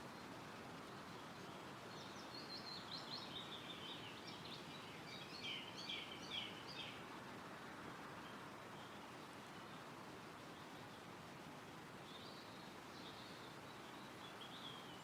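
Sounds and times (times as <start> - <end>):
songbird chirping: 0.0 - 15.0
wind through trees: 0.0 - 15.0.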